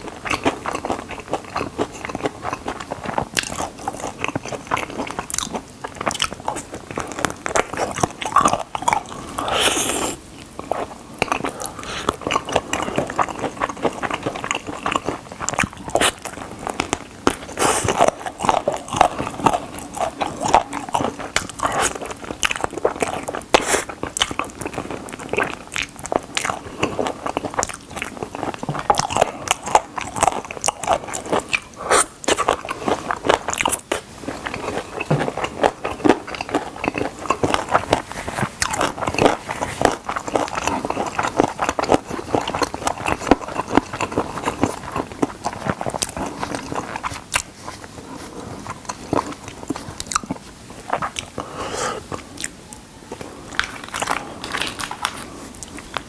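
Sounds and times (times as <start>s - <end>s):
crispy food crunching: 0.0s - 56.0s
person chewing: 0.0s - 56.0s.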